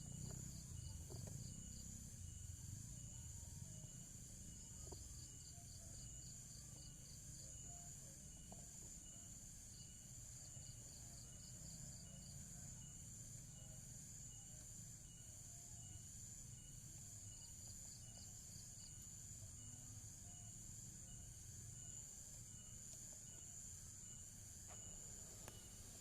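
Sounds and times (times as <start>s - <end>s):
crickets chirping: 0.0s - 26.0s
high insect hum: 0.0s - 26.0s.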